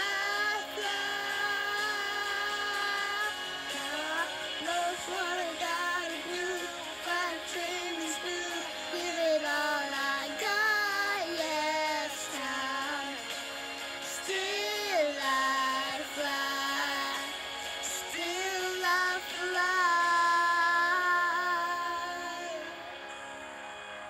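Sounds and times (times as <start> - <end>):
music: 0.0 - 24.0.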